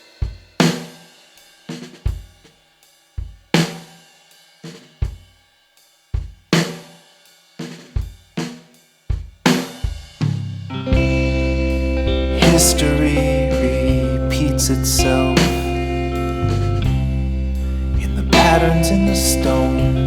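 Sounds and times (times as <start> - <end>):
drum kit beat: 0.0 - 20.0.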